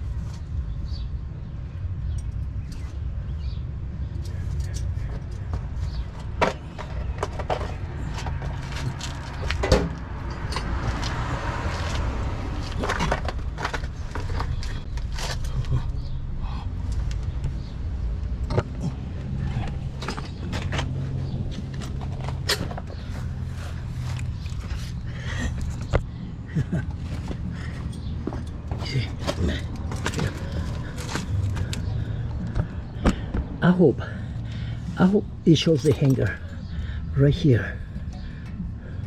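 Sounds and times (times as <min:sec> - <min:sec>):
car engine idling: 0:04.0 - 0:39.0.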